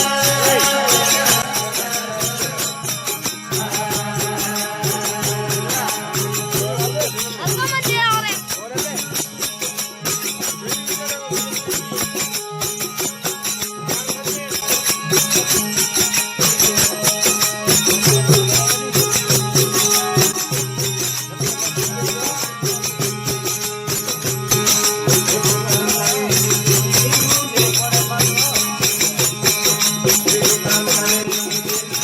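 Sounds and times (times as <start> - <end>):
fast percussion beat: 0.0 - 32.0
string melody: 0.0 - 32.0.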